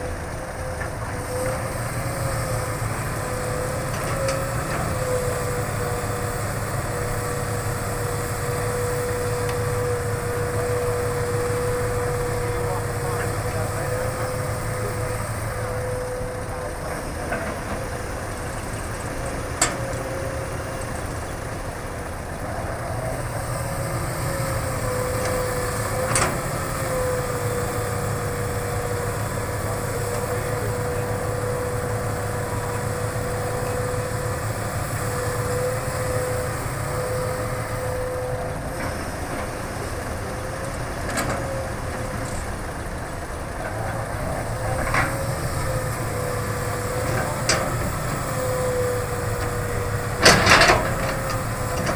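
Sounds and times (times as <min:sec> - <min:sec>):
excavator diesel engine: 0:00.0 - 0:51.9.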